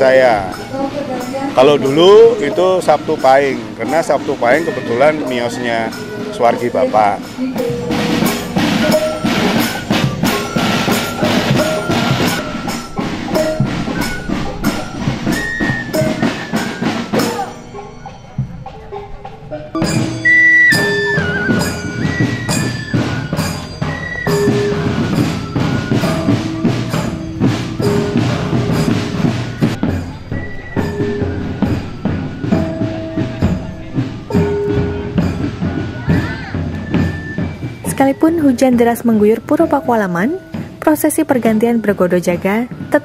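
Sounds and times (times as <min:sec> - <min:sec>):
quick drum beats: 0:00.0 - 0:17.8, 0:19.7 - 0:43.0
flutes playing a melody: 0:00.0 - 0:18.9, 0:19.8 - 0:43.0.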